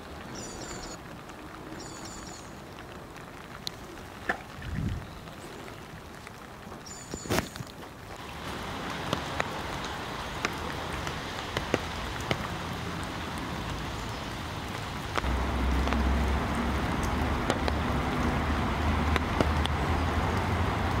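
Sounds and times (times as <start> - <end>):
rain hiss: 0.0 - 21.0
single raindrop ticks: 2.2 - 5.0, 6.0 - 21.0.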